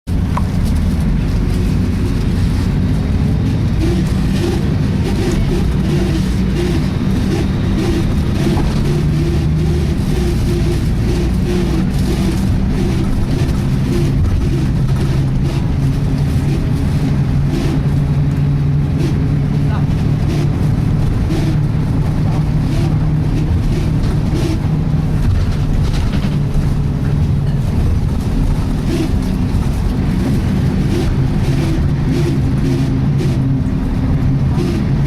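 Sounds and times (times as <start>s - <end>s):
bus diesel engine running: 0.0s - 35.0s
rhythmic sweeping noise: 3.2s - 25.0s, 28.3s - 35.0s.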